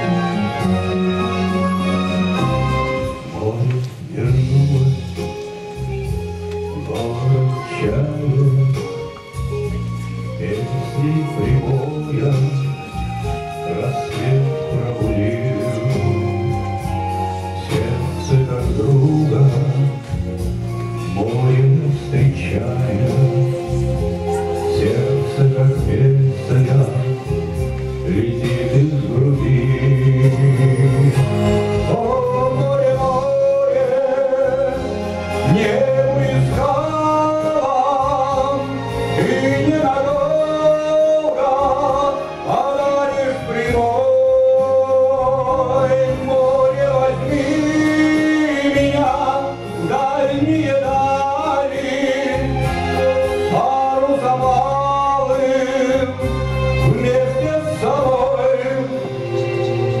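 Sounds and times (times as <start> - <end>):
instrumental accompaniment: 0.0 - 60.0
man singing into microphone: 0.0 - 60.0.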